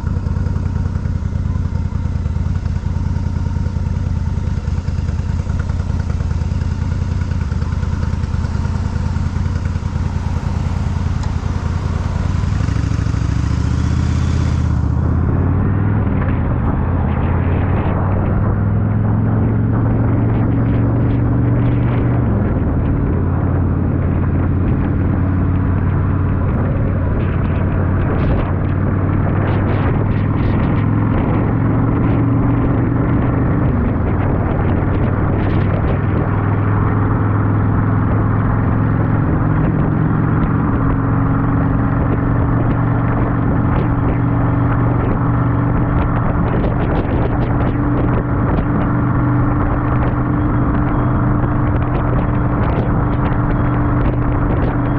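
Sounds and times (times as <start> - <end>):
motorcycle engine running: 0.0 - 54.9
road noise: 0.0 - 54.9
wind rush: 3.1 - 54.9.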